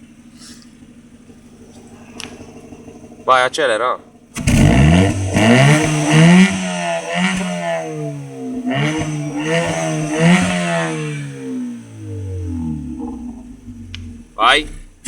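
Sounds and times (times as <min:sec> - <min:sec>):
car engine revving: 0:00.0 - 0:15.0
exhaust pops: 0:00.0 - 0:15.0.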